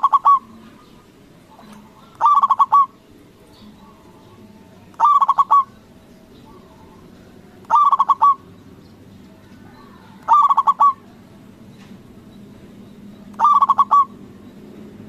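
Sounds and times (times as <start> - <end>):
soft dove calls: 0.0 - 8.6, 9.4 - 12.0, 13.2 - 14.4
dove cooing song: 0.0 - 15.0.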